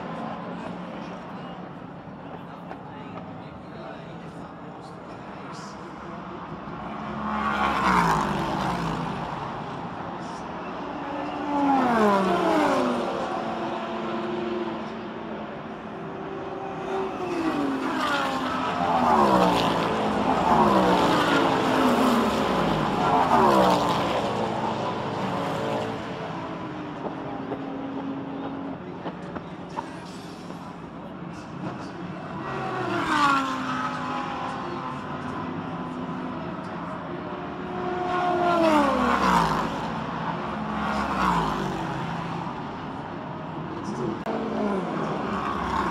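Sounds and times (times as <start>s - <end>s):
race cars passing at speed: 0.0s - 45.9s.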